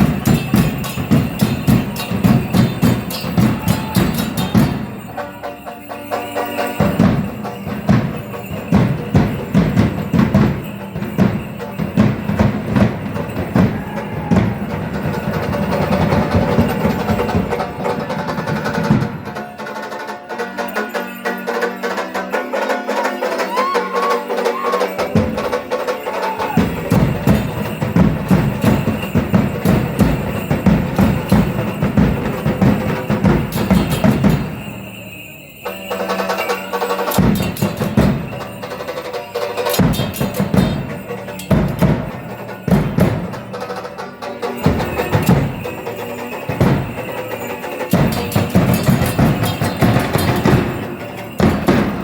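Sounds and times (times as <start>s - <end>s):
deep drums beating: 0.0s - 5.2s, 6.8s - 19.6s, 24.8s - 34.9s, 37.1s - 38.9s, 39.8s - 52.0s
light clattering percussion: 0.0s - 52.0s.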